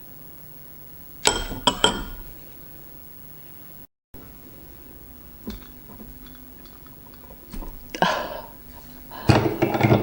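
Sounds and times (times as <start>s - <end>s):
faint hiss of room tone: 0.0s - 10.0s.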